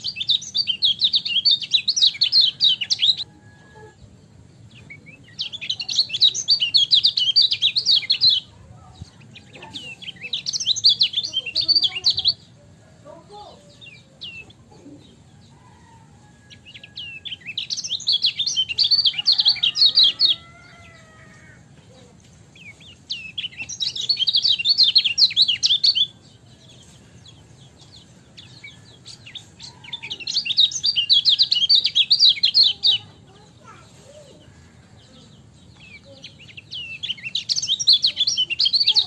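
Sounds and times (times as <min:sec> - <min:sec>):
bird singing high chirps: 0:00.0 - 0:12.7, 0:13.3 - 0:39.0.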